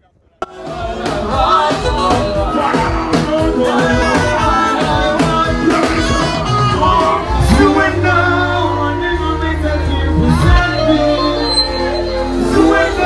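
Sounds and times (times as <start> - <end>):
song with singing over a beat: 0.4 - 13.0.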